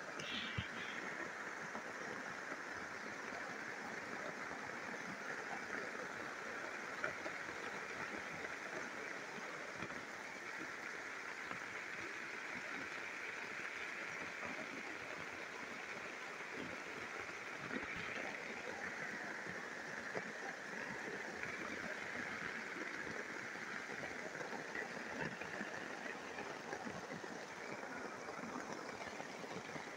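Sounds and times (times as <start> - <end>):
continuous jungle hiss: 0.0 - 29.9.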